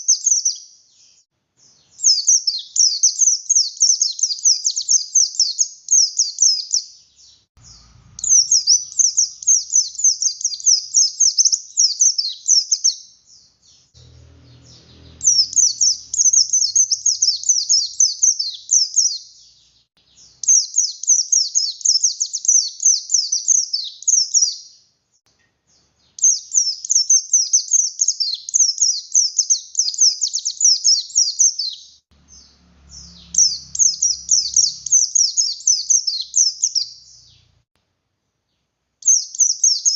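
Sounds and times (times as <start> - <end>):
bird twittering song: 0.0 - 37.6, 38.6 - 39.9.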